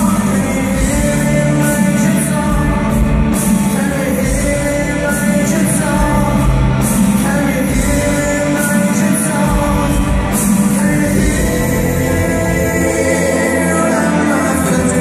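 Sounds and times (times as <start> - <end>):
lead singer singing: 0.0 - 15.0
live synth-pop band playing: 0.0 - 15.0.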